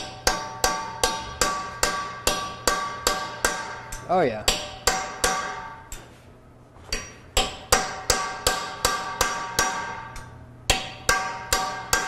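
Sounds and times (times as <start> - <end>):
hammer striking steel chisel: 0.0 - 6.0, 6.9 - 12.0.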